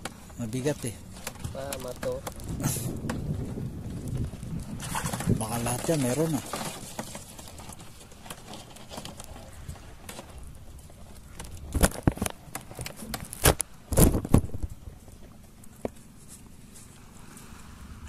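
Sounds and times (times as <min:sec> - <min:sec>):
knocks and clatters in boat: 0:00.0 - 0:17.5.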